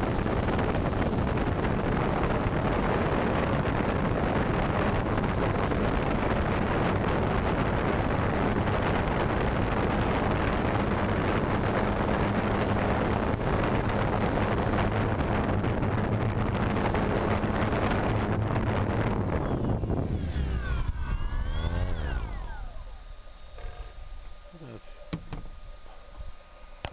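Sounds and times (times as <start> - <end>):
wind noise on microphone: 0.0 - 23.2
drone motors humming: 0.0 - 26.9.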